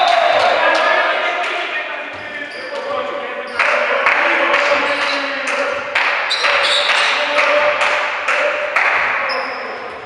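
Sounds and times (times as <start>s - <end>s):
noisy sports hall din: 0.0s - 10.0s.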